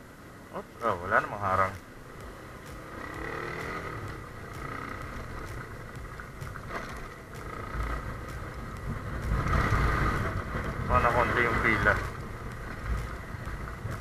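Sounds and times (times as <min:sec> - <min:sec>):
motorcycle engine running: 0:00.7 - 0:14.0.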